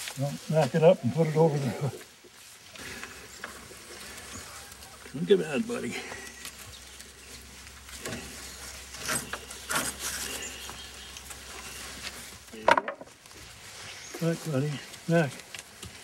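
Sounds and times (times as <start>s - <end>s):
rope and leather harness rubbing: 0.0s - 16.0s.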